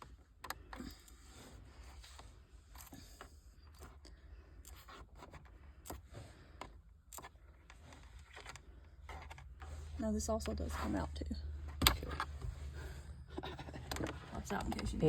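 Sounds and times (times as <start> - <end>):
small parts clicking and rustling: 0.0 - 10.8, 13.3 - 15.0
low steady hum: 0.0 - 15.0.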